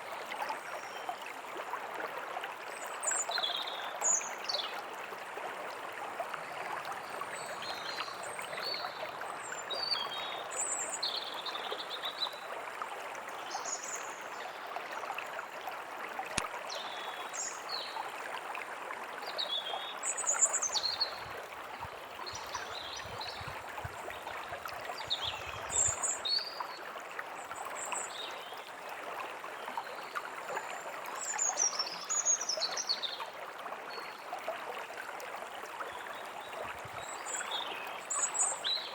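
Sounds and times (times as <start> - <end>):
forest stream running: 0.0 - 38.9.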